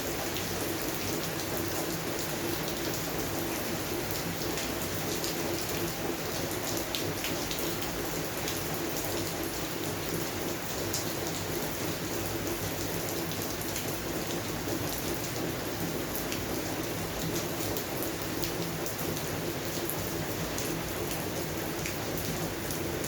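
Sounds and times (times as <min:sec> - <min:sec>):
rain falling on plants: 0:00.0 - 0:23.0.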